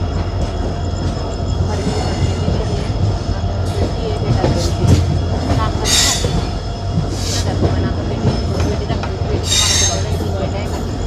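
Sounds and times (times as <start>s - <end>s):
train hum and rumble: 0.0s - 11.0s.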